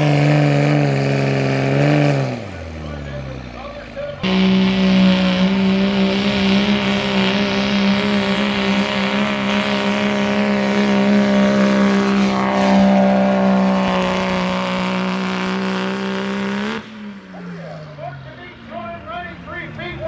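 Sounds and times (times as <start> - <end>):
truck engine at high revs: 0.0 - 20.0.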